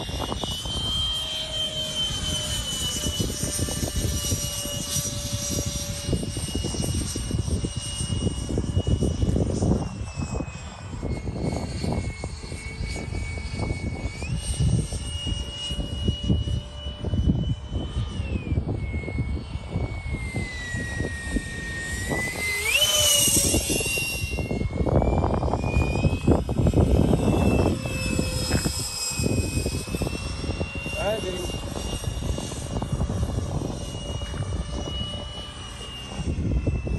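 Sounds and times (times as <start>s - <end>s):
gusty low rumble: 0.0s - 36.9s
model jet fan whine: 0.0s - 36.9s.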